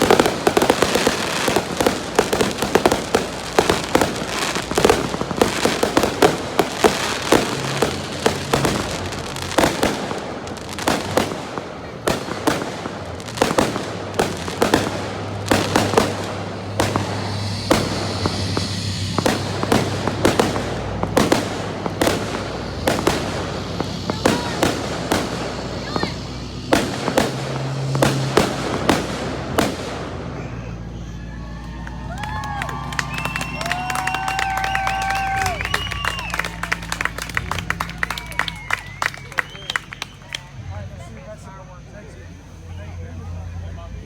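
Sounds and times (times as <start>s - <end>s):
fireworks bangs: 0.0s - 41.0s
fireworks crackle: 0.0s - 41.6s.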